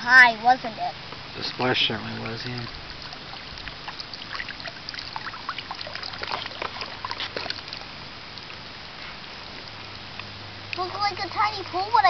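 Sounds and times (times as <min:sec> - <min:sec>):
muddy water dripping into puddle: 0:01.2 - 0:11.8.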